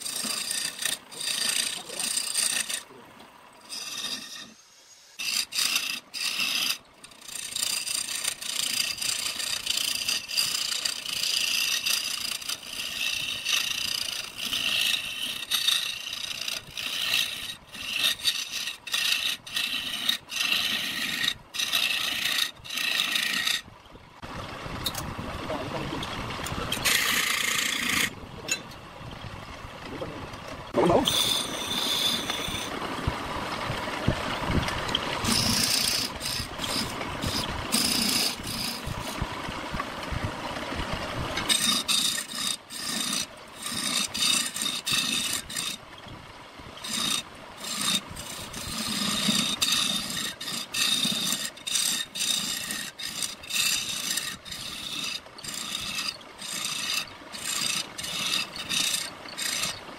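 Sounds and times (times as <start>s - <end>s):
chisel scraping wood on lathe: 0.0s - 23.7s, 26.0s - 28.8s, 30.4s - 46.0s, 46.8s - 59.9s.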